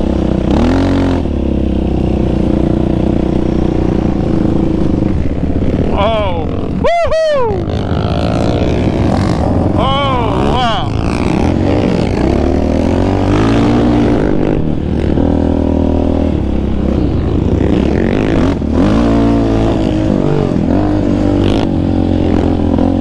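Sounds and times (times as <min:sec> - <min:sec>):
quad engine revving: 0:00.0 - 0:23.0.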